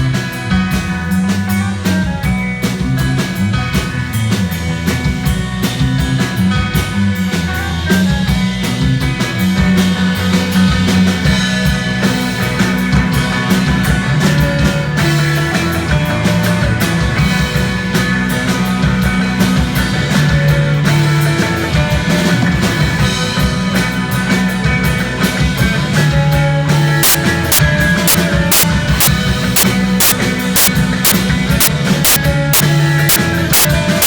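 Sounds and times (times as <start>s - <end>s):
rock music: 0.0s - 33.8s.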